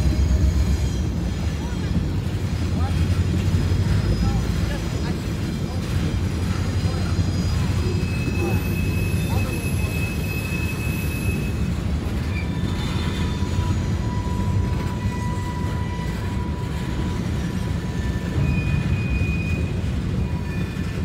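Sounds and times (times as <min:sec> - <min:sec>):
train wheels rumbling on rails: 0:00.0 - 0:21.0
wheel squeals: 0:00.0 - 0:21.0.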